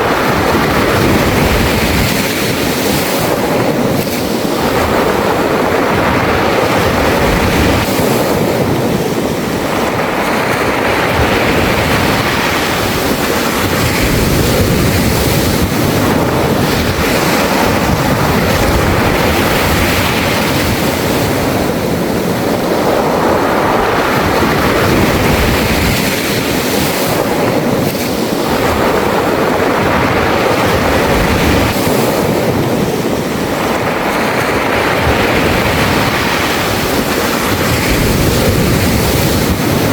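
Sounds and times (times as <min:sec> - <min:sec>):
sea waves washing over beach: 0:00.0 - 0:39.9.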